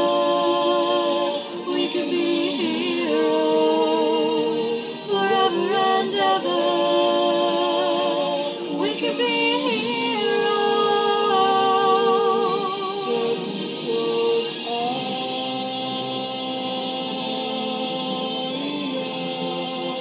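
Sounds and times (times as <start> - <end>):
two voices singing duet: 0.0 - 20.0.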